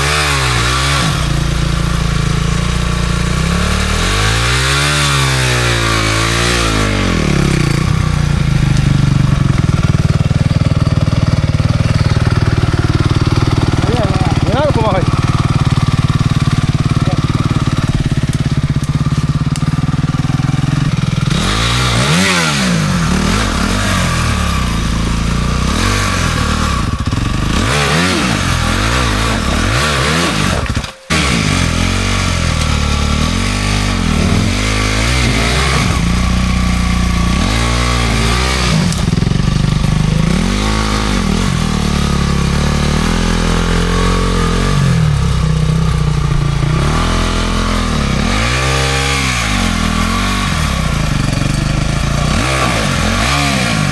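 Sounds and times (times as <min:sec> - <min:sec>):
motorcycle engine idling and revving: 0:00.0 - 0:53.9.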